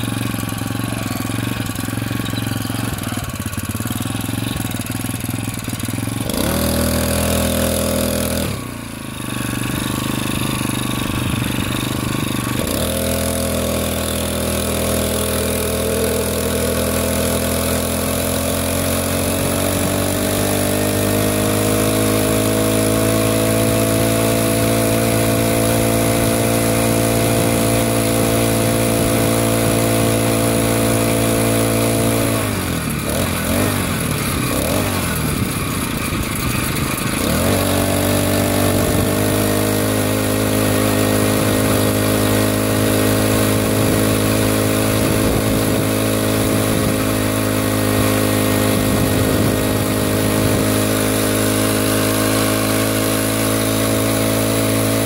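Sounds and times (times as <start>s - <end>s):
small gas engine running: 0.0s - 55.0s.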